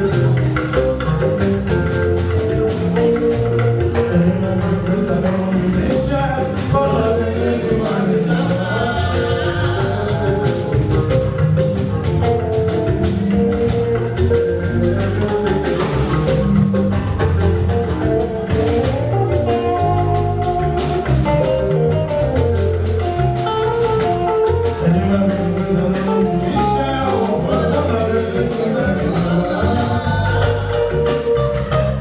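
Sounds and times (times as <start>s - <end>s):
dense drumming: 0.0s - 32.0s
driving bass line: 0.0s - 32.0s
keyboard melody: 0.0s - 32.0s
live band music: 0.0s - 32.0s.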